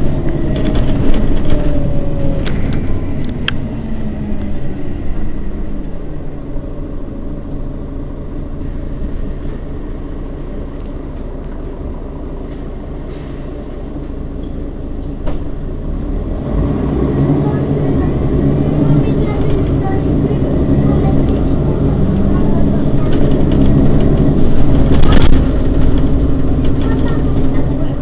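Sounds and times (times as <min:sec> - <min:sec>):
bus engine idling: 0:00.0 - 0:28.0.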